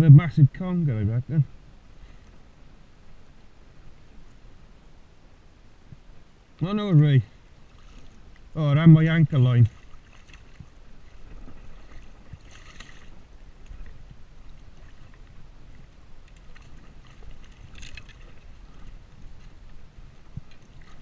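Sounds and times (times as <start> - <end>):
wind and water rushing: 1.3 - 21.0.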